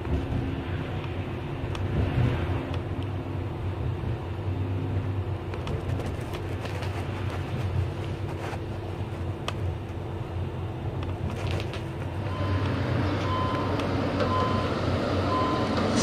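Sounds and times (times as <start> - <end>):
steady hum: 0.0 - 16.0
train low rumble: 0.0 - 16.0.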